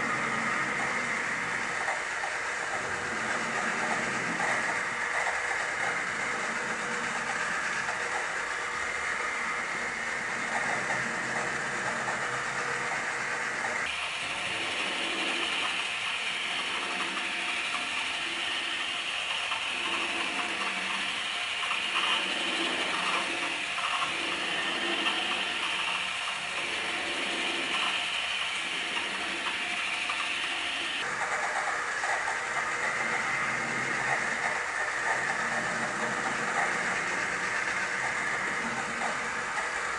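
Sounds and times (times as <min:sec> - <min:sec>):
drawing machine mechanical whir: 0:00.0 - 0:39.9.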